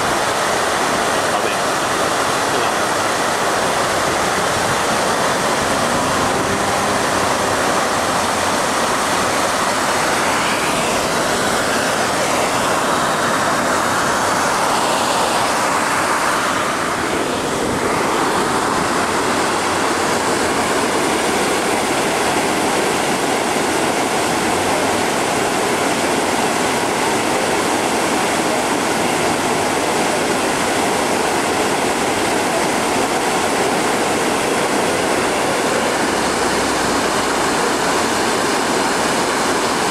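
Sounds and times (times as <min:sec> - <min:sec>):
water rushing along a canal: 0:00.0 - 0:39.9.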